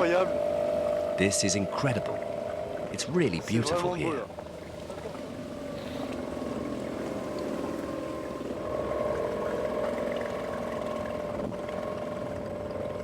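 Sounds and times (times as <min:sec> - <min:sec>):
small boat motor humming: 0:00.0 - 0:13.0.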